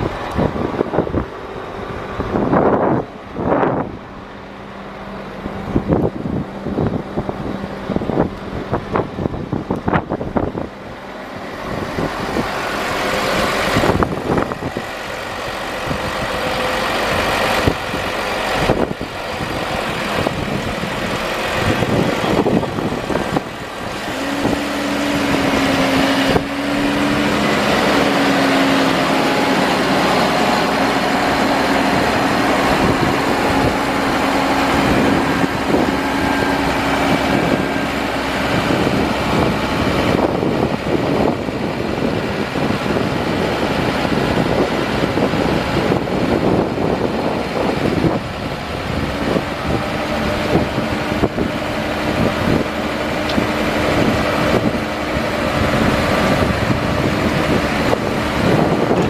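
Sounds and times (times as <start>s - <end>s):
steady hydraulic hum: 0.0s - 59.0s
tractor diesel engine running: 0.0s - 59.0s.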